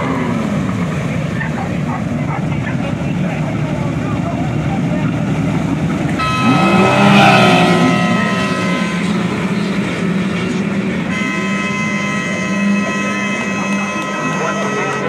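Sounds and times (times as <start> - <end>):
watercraft engines revving and whining: 0.0 - 15.0.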